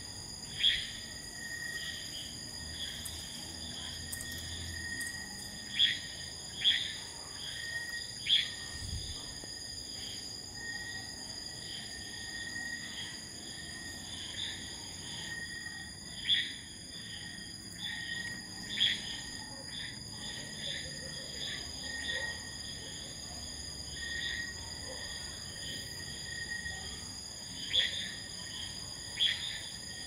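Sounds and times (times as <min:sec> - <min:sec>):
insects trilling: 0:00.0 - 0:30.0
short insect calls: 0:00.0 - 0:30.0.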